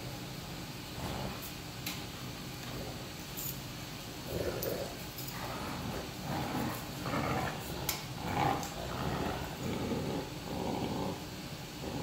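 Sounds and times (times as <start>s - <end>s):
dogs play growling: 0.8s - 3.4s, 4.2s - 12.0s.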